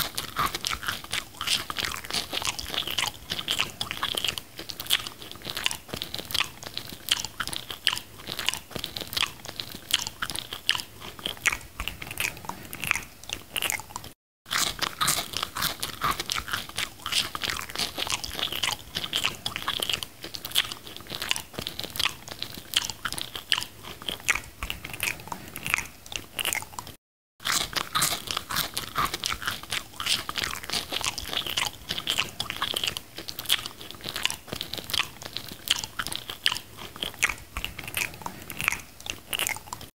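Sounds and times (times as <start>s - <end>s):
chewing crisp fries: 0.0s - 39.9s.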